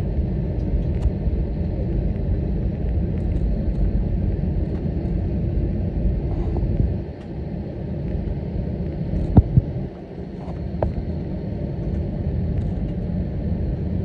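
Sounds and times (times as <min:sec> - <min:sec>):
aircraft engines and wheels rumbling: 0:00.0 - 0:14.0.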